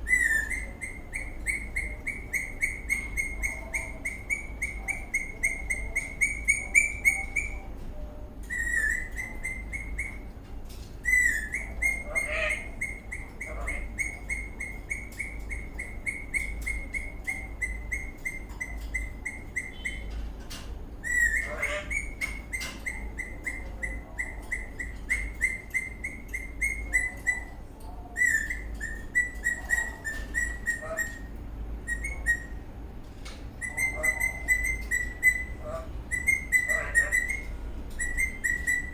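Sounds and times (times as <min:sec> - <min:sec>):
parrot chirping rapid notes: 0:00.0 - 0:07.6, 0:11.0 - 0:20.1, 0:21.0 - 0:27.5, 0:28.2 - 0:32.6, 0:33.6 - 0:38.9.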